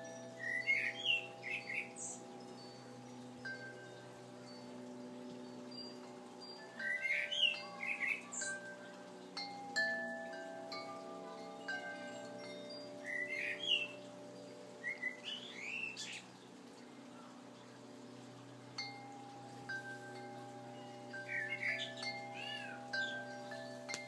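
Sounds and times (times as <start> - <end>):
bird chirping: 0.0 - 24.0
wind chimes ringing: 0.0 - 24.0.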